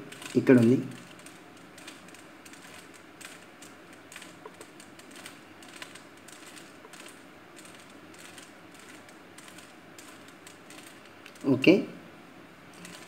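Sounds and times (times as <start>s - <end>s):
puzzle cube clicking as twisted: 0.1s - 11.5s.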